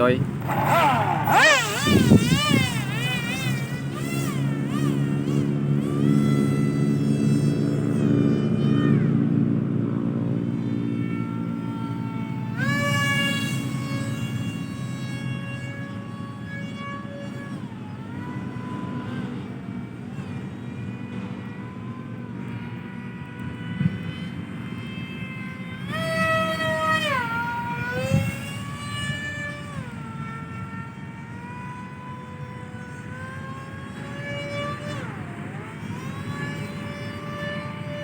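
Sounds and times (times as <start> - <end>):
kite hummer droning tone: 0.0 - 38.0
wind rumbling on microphone: 0.0 - 38.0.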